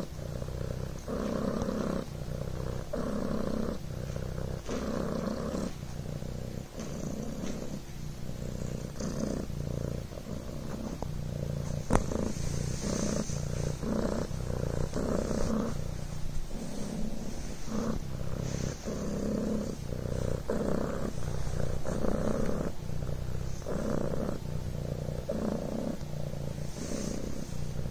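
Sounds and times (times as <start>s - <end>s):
kitten purring: 0.0s - 27.9s.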